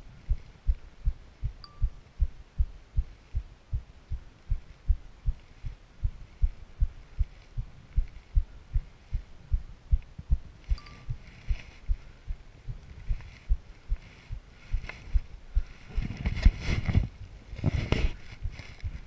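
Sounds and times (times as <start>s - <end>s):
footsteps low thuds: 0.0s - 19.0s.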